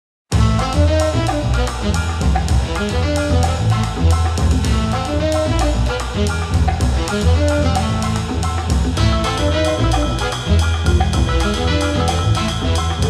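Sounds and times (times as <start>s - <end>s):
bass line: 0.3s - 13.0s
steady drum beat: 0.3s - 13.0s
upbeat instrumental music: 0.3s - 13.0s.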